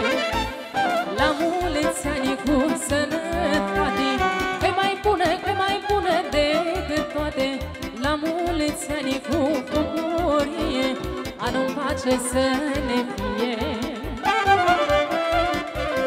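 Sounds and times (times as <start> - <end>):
folk band playing dance tune: 0.0 - 16.0.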